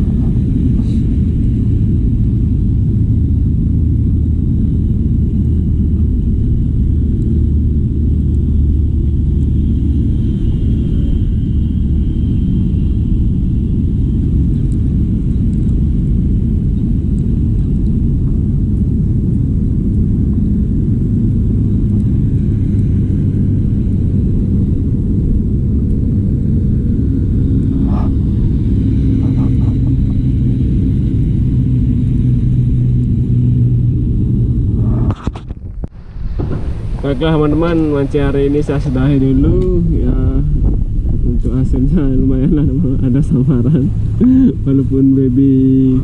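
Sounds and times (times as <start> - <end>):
strong wind buffeting microphone: 0.0 - 46.0.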